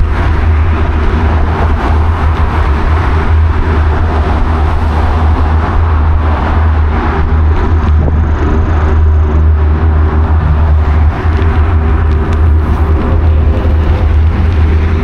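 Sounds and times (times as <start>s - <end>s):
highway traffic noise: 0.0s - 15.0s
wind buffeting microphone: 0.0s - 15.0s.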